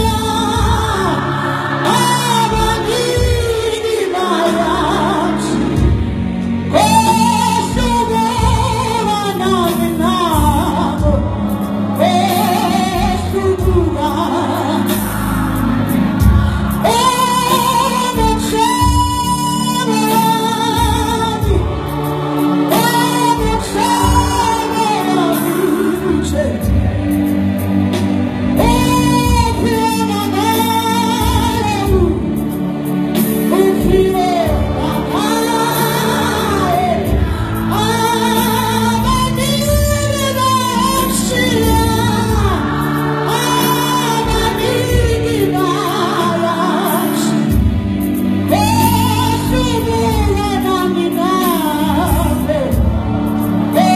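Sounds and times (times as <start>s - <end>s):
youth choir singing gospel: 0.0s - 53.9s.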